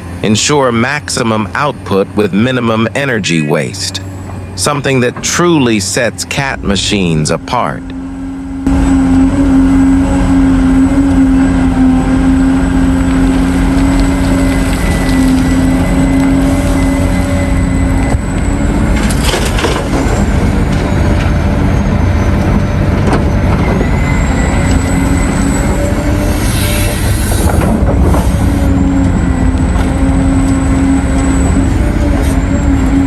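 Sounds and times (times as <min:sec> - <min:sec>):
excavator diesel engine and hydraulics: 0:00.0 - 0:33.0.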